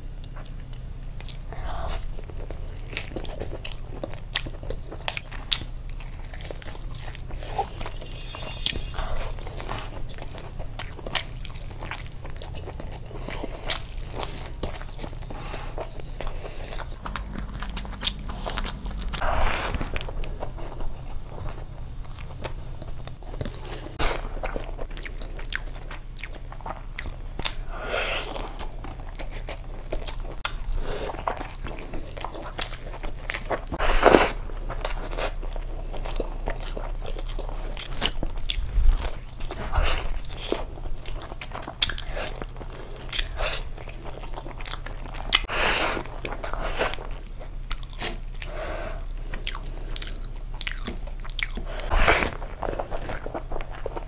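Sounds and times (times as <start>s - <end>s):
man biting and chewing meat: 0.3s - 54.0s.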